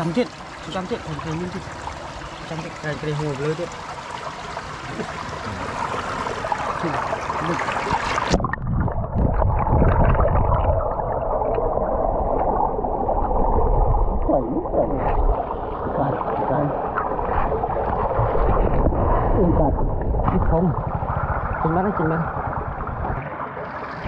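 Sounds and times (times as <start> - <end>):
water gurgling among stones: 0.0 - 24.0.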